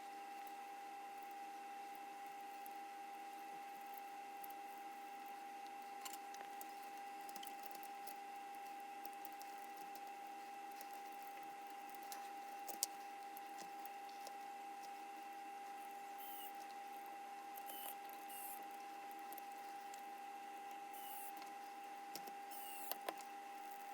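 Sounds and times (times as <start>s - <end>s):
faint high hum: 0.0s - 23.9s.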